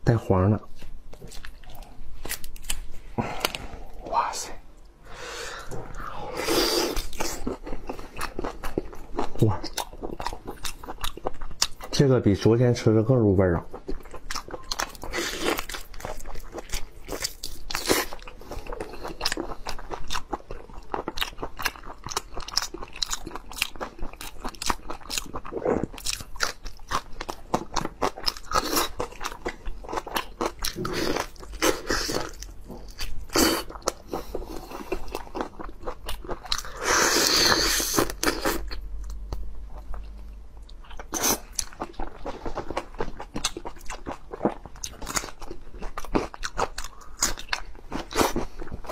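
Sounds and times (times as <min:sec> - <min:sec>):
crunching and chewing prawn: 0:06.7 - 0:12.1, 0:13.5 - 0:48.9.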